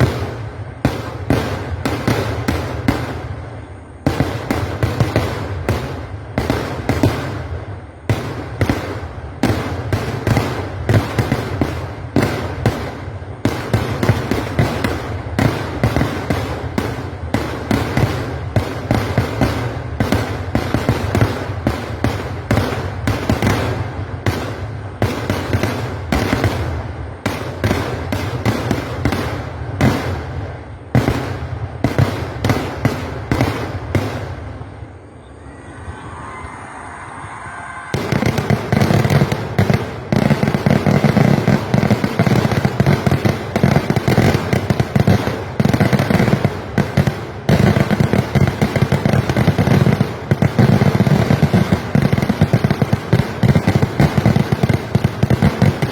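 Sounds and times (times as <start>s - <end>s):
fireworks explosions: 0.0s - 36.5s, 37.4s - 55.9s.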